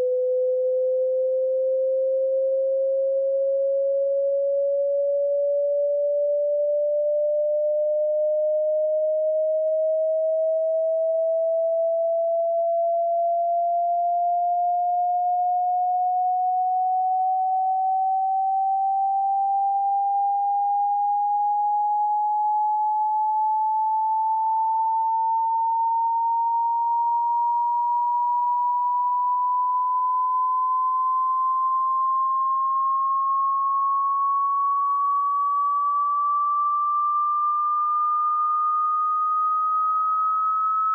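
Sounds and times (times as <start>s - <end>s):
electronic sine tone rising: 0.0s - 40.9s.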